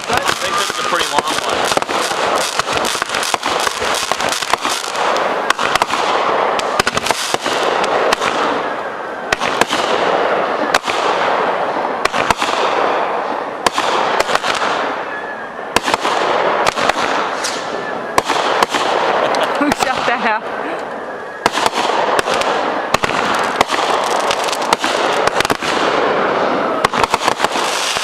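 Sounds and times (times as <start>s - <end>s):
fireworks bangs and pops: 0.0s - 28.0s
fireworks hissing and crackling: 0.0s - 28.0s.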